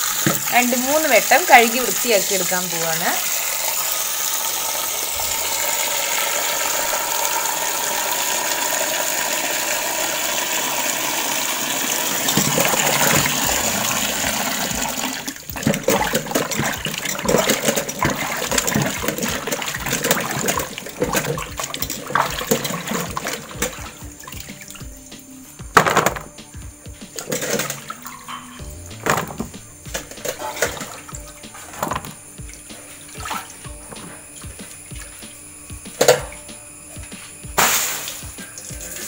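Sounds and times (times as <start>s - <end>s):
tap water pouring into steel bowl: 0.0s - 24.9s, 27.2s - 35.3s.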